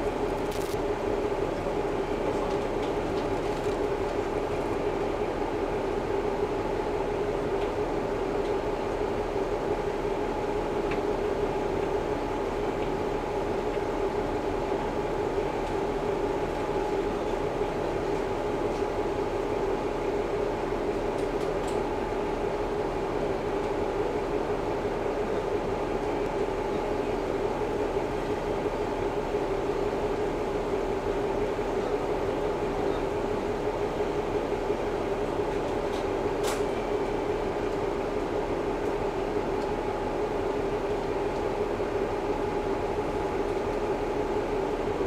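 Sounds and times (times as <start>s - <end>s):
diesel railcar engine idling: 0.0s - 45.0s.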